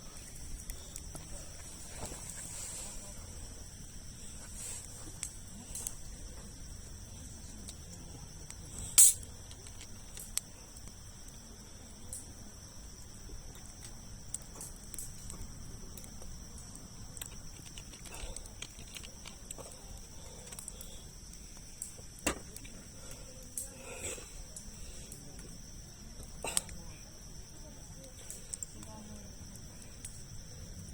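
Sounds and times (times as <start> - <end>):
campfire crackling: 0.0 - 30.9
crickets trilling: 0.0 - 30.9
fire popping: 0.0 - 30.9.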